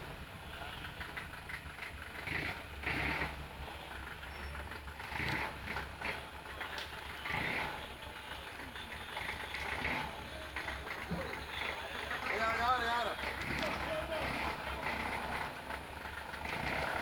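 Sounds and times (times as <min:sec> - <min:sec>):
jeep engine rumbling: 0:00.0 - 0:17.0.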